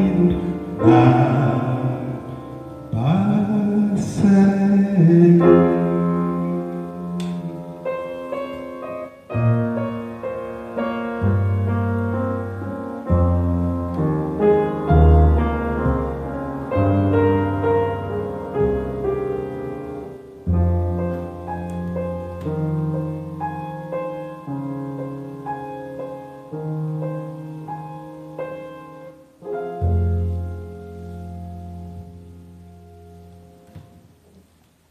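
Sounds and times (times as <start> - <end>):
slow piano chords: 0.0 - 34.9.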